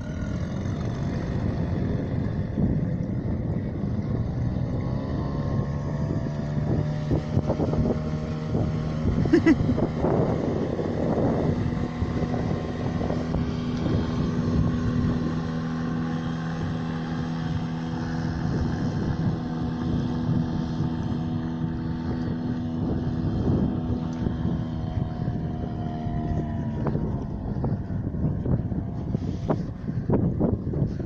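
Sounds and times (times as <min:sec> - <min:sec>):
outboard motor running: 0:00.0 - 0:31.0
wind buffeting microphone: 0:00.0 - 0:31.0.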